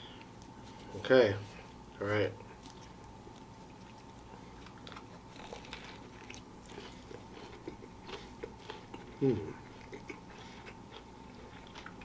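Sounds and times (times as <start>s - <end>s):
person chewing crispy food: 1.7s - 12.0s.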